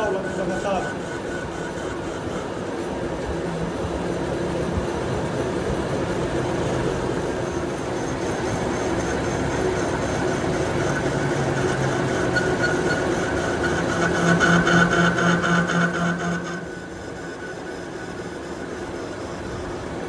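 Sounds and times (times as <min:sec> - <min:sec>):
workshop machine humming: 0:00.0 - 0:20.0.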